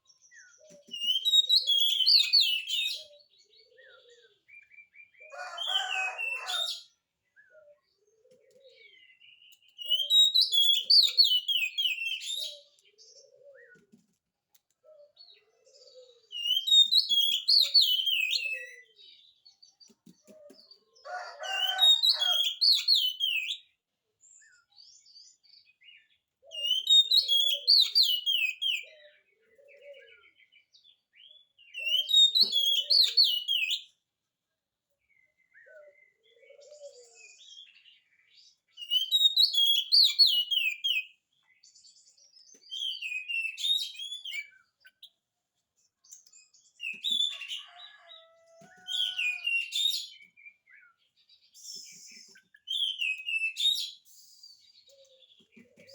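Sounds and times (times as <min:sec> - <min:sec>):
bird singing: 0:00.0 - 0:13.8, 0:14.9 - 0:23.7, 0:24.4 - 0:34.0, 0:35.0 - 0:45.2, 0:45.9 - 0:55.9.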